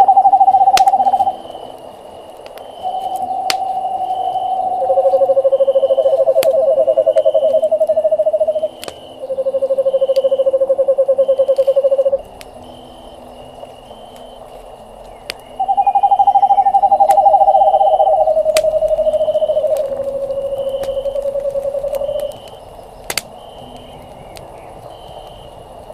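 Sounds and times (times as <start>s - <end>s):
owl trills: 0.0s - 25.6s
campfire crackling: 0.0s - 25.9s.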